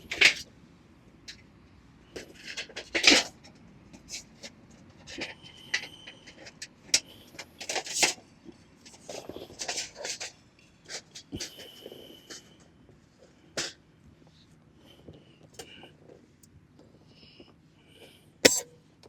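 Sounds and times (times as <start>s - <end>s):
rustling and scraping of handling: 2.1s - 18.7s.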